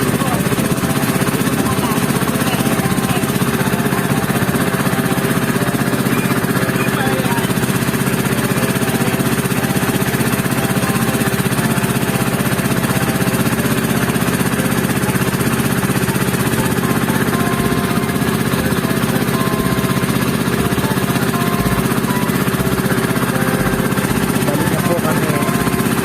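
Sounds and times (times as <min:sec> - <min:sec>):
small boat engine running: 0:00.0 - 0:26.0.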